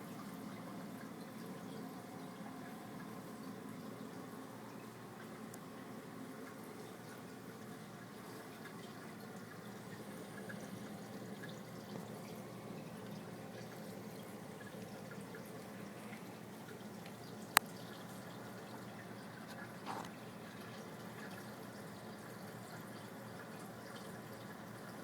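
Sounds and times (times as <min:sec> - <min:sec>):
aquarium water trickling: 0:00.0 - 0:25.0.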